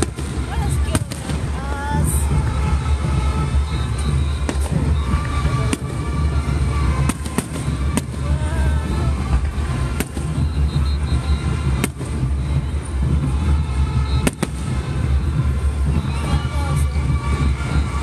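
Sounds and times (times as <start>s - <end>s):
fireworks bangs: 0.0s - 17.9s
low rumble: 0.0s - 18.0s.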